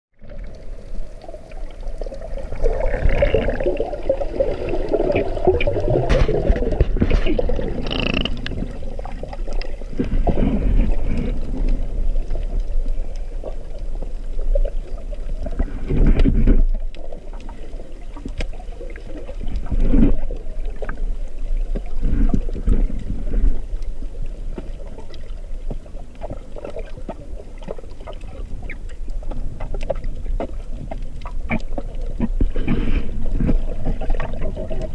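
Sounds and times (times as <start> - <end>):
muffled underwater water sloshing: 0.1 - 34.9.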